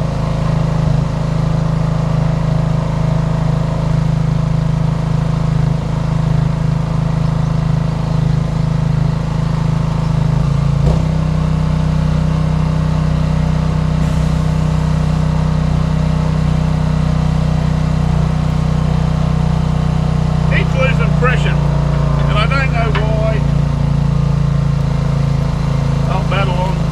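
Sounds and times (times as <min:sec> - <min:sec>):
pressure washer motor and pump hum: 0:00.0 - 0:26.9.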